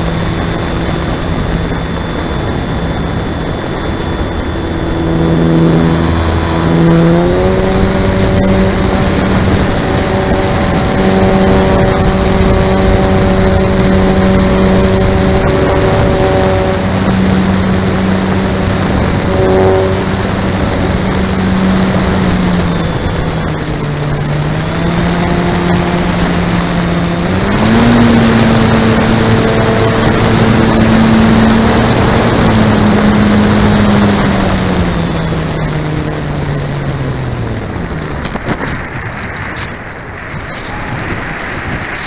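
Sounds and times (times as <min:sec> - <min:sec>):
model airplane motor drone: 0:00.0 - 0:42.0
wind on microphone: 0:00.0 - 0:42.0.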